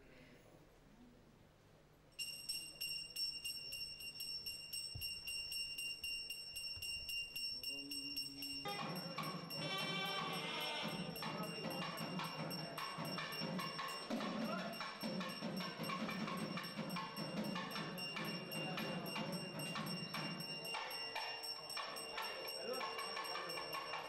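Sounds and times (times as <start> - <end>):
hand bell ringing: 2.2 - 24.0
music with percussion: 2.2 - 24.0.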